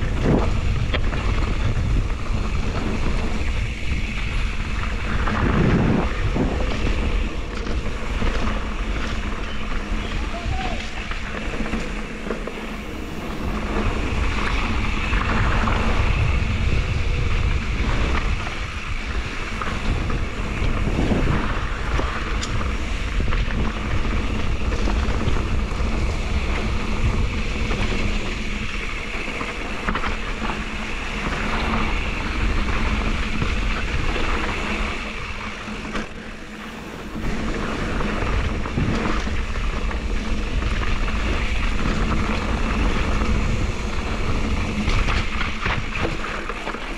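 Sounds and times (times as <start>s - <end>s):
tyres rumbling on dirt and rocks: 0.0s - 46.9s
wind buffeting microphone: 0.0s - 46.9s.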